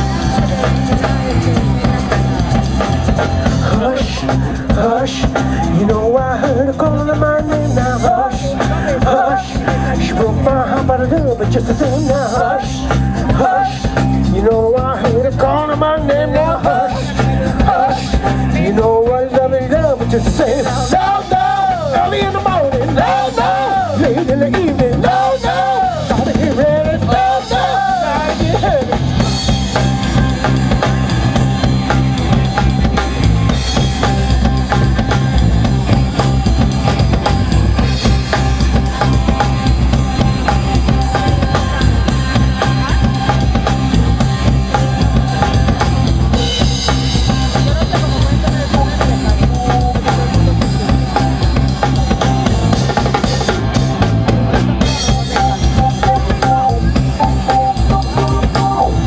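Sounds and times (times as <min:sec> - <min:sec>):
drum kit steady beat: 0:00.0 - 0:59.0
live rock band playing: 0:00.0 - 0:59.0.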